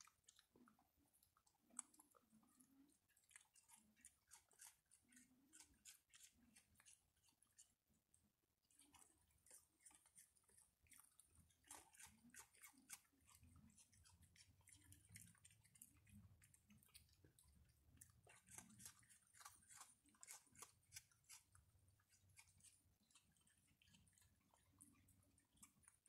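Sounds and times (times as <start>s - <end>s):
animals chewing and crunching: 0.0s - 26.0s.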